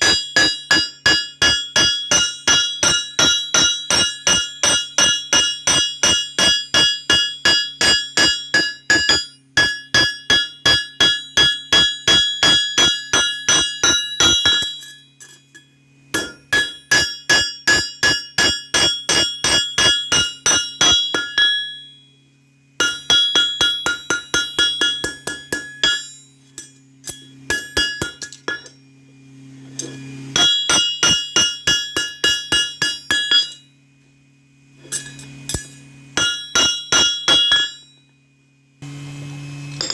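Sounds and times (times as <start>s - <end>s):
hammer ringing on steel: 0.0s - 22.2s, 22.8s - 28.8s, 30.3s - 33.8s, 34.9s - 38.1s
steady low hum: 0.0s - 39.9s.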